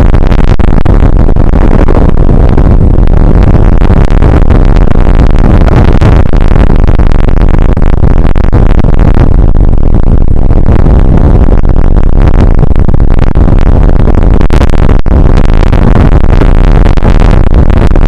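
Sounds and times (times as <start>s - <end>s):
rain on microphone distorted rush: 0.0s - 18.0s.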